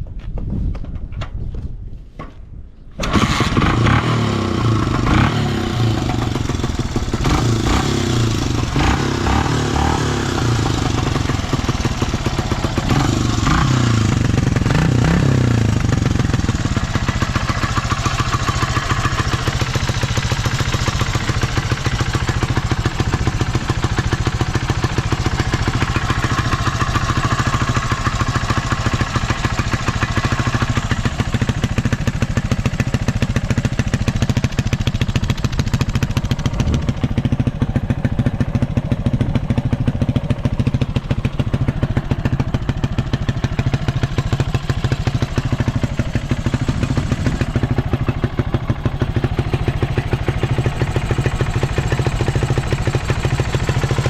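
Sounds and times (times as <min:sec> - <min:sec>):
motorcycle engine revving and idling: 0:03.0 - 0:54.0.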